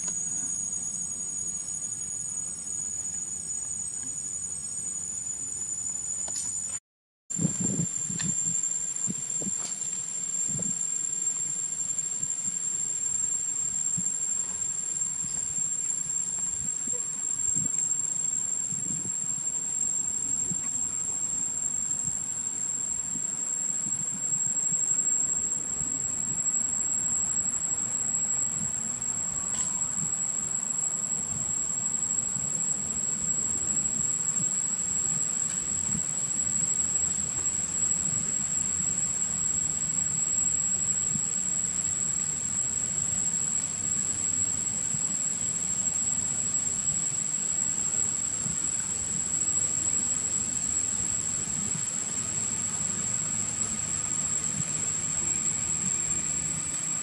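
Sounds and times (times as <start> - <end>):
high-pitched insect drone: 0.0 - 57.0.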